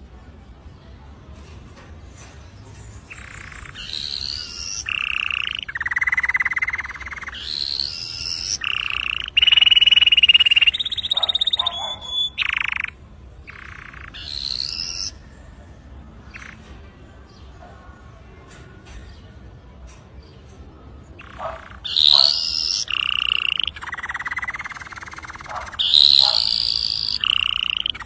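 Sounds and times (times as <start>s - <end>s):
canary singing trills: 2.9s - 18.2s, 20.2s - 28.0s.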